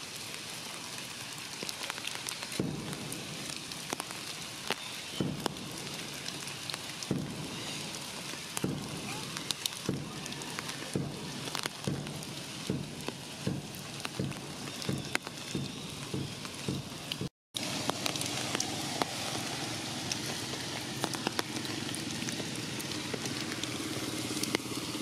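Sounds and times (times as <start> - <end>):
drops ticking on leaves: 0.0 - 25.0
rain hissing through foliage: 0.0 - 25.0.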